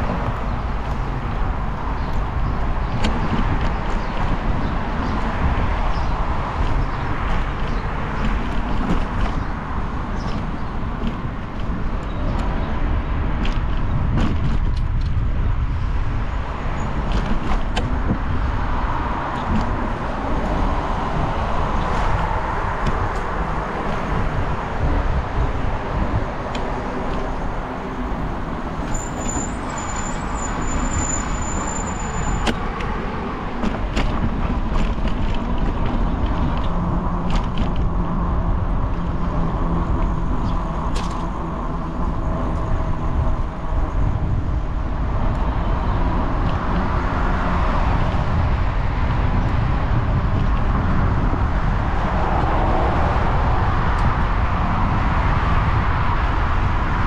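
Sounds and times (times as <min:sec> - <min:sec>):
road vehicle rumble: 0:00.0 - 0:57.0.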